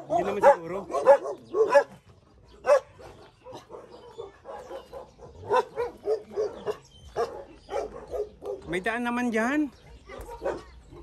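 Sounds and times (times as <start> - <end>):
dog barking: 0.0 - 2.0, 2.6 - 8.8, 10.1 - 11.0.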